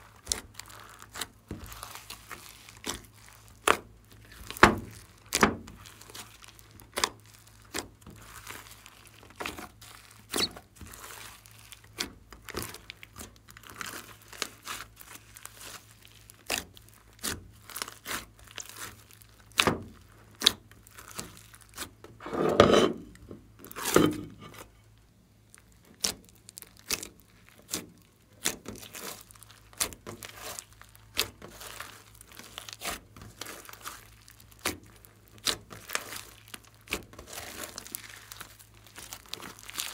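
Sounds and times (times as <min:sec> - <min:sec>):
slime squelch: 0:00.0 - 0:39.9.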